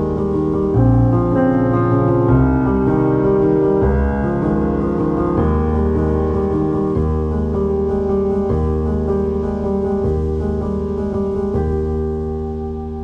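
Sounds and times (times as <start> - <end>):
calm instrumental music: 0.0 - 13.0.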